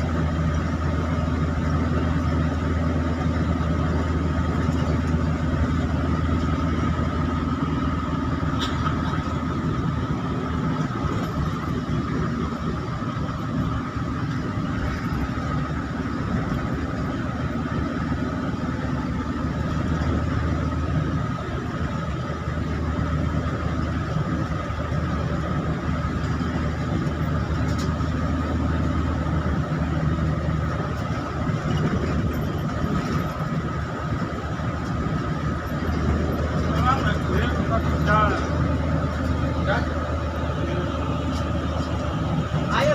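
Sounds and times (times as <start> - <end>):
engine drone: 0.0 - 42.9
road noise hiss: 0.0 - 42.9.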